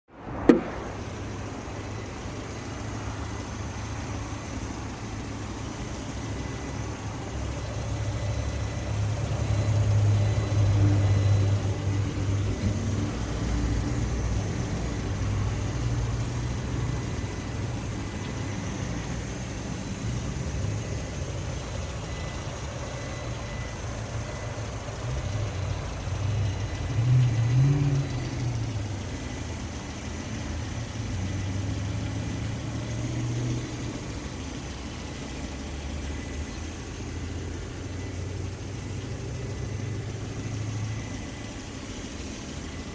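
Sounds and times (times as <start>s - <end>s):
petrol engine running: 0.3s - 42.9s
engine knock: 1.6s - 42.9s.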